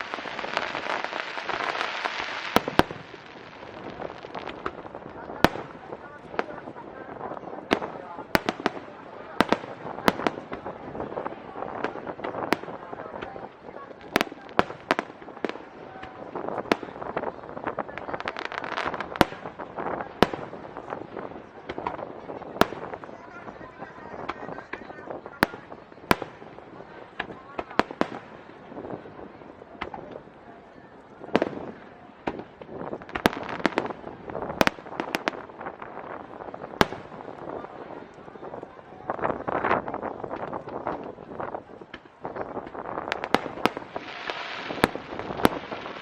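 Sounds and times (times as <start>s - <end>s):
firework bangs: 0.0s - 46.0s
fireworks crackling pops: 0.0s - 46.0s.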